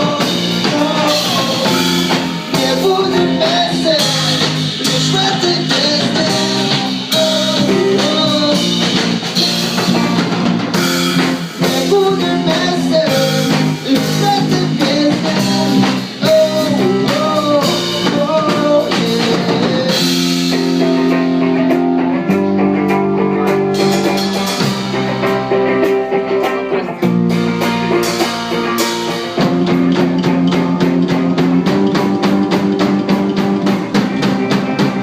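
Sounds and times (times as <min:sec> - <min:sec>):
drum kit: 0:00.0 - 0:35.0
electric guitar chords: 0:00.0 - 0:35.0.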